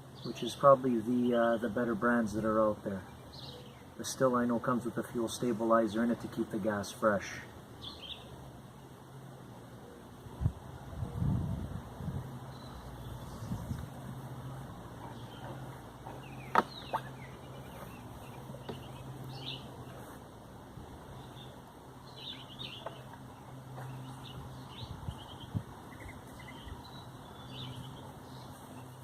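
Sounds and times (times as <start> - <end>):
small birds chirping: 0.0 - 9.2, 12.2 - 29.0.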